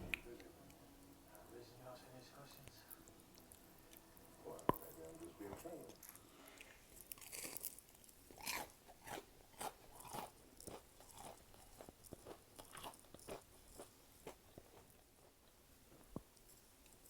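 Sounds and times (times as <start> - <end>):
crunchy food chewing: 2.5 - 17.0.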